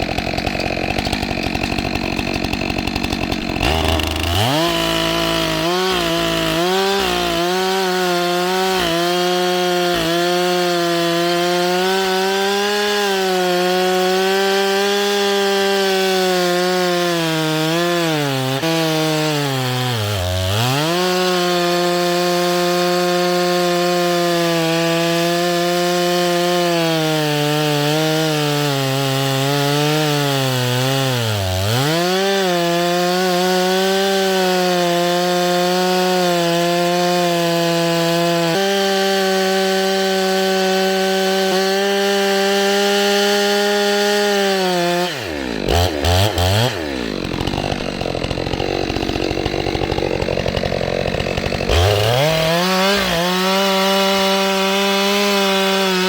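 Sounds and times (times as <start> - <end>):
chainsaw cutting: 0.0 - 56.0.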